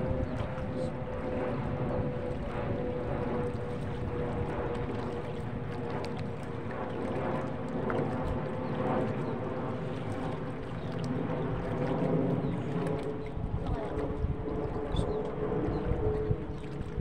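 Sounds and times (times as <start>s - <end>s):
small boat motor running: 0.0s - 17.0s.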